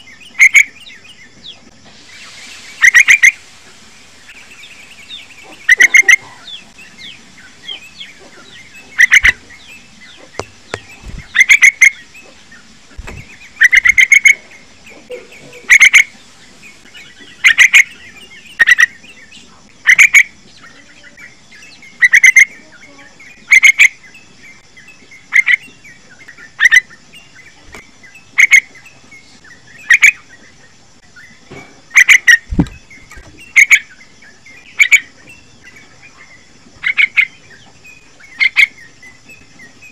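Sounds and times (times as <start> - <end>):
bird chattering calls: 0.0 - 1.1, 2.2 - 3.4, 4.3 - 30.6, 31.3 - 39.9.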